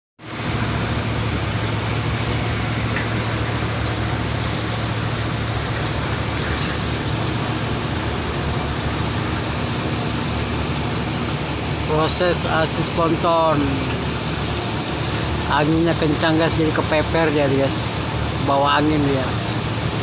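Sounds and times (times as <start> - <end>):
boat engine running: 0.2 - 20.0.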